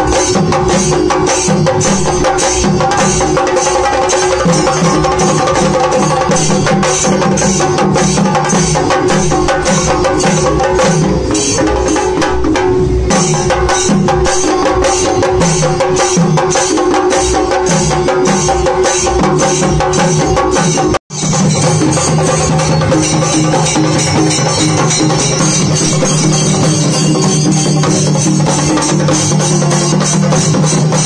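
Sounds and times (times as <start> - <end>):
drums beaten with sticks: 0.0 - 31.0.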